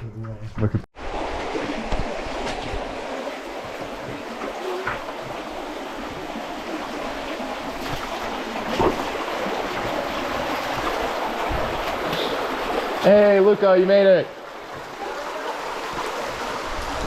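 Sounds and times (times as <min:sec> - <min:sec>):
running water rushing: 0:01.0 - 0:17.0.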